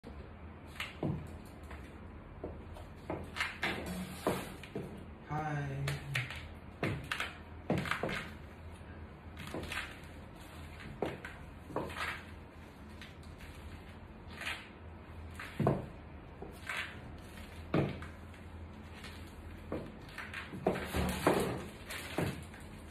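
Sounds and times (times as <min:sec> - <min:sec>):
heels clacking on tiled floor: 0:00.7 - 0:05.0, 0:06.7 - 0:08.5, 0:09.4 - 0:14.6, 0:15.2 - 0:22.9.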